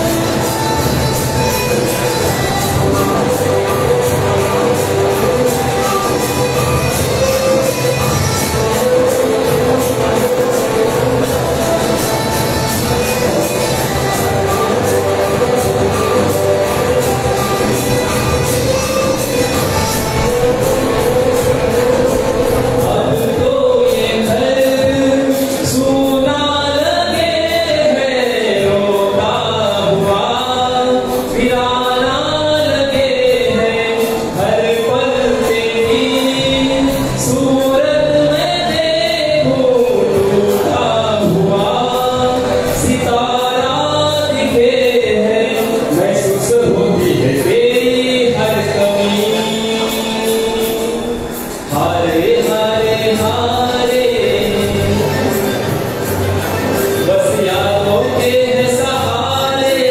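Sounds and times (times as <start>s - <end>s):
man singing into a microphone: 0.0s - 59.9s.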